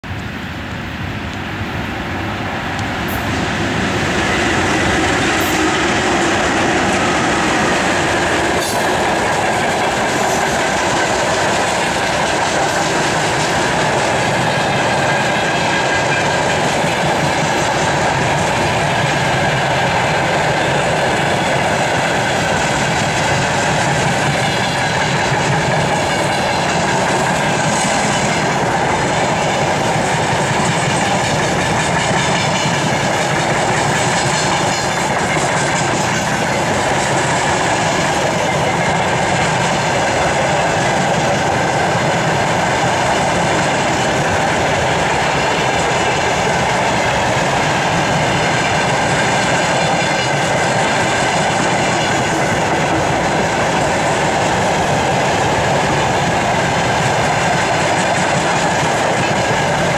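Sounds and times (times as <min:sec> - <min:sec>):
freight train passing: 0:00.0 - 0:59.9.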